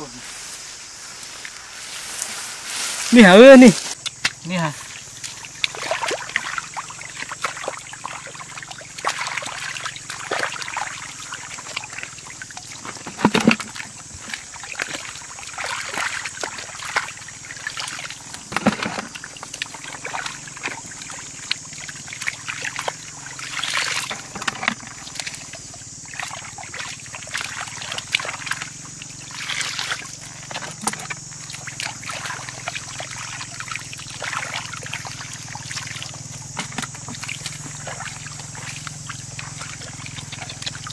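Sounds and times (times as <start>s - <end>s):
water sloshing and splashing: 3.0s - 40.9s
water trickling through basket: 4.6s - 40.9s.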